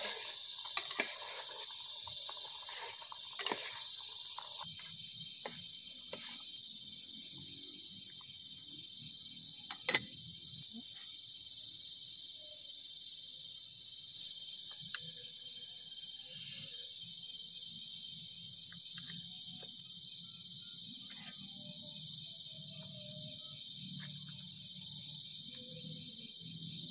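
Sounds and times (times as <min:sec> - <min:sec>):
insect chorus trilling: 0:00.0 - 0:26.9.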